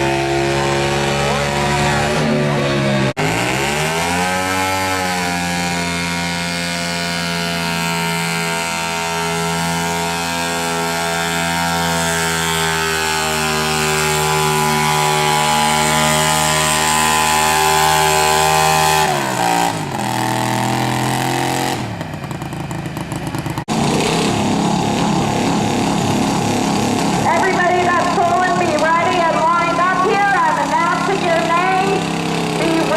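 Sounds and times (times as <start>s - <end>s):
garden tractor engine at high revs: 0.0s - 32.9s.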